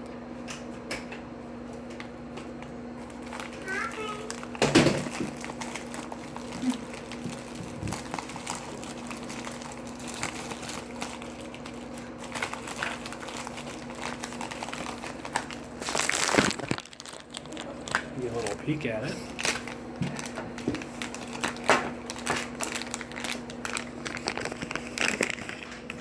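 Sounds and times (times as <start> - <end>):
packaging rustles and clicks: 3.0 - 26.0.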